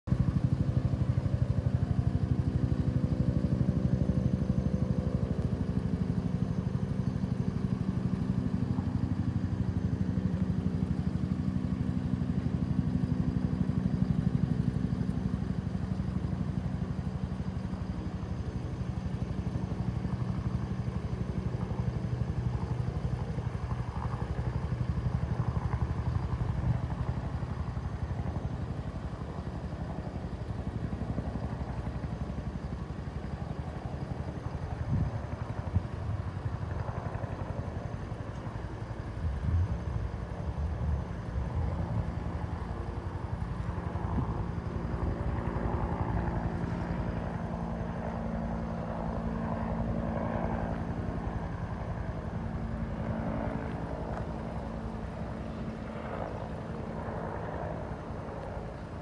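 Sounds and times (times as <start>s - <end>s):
helicopter rotor beating: 0.1s - 59.0s.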